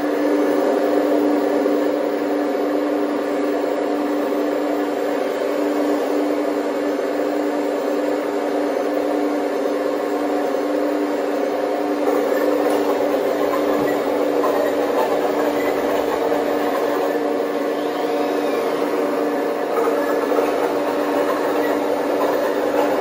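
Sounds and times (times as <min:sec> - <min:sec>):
constant humming tone: 0:00.0 - 0:23.0
model excavators machine drone: 0:00.0 - 0:23.0.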